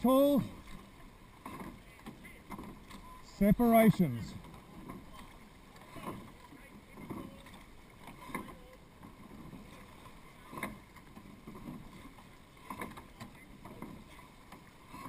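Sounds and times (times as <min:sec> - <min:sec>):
water washing along hull: 0:00.0 - 0:15.0
oar knock and splash: 0:00.3 - 0:15.0.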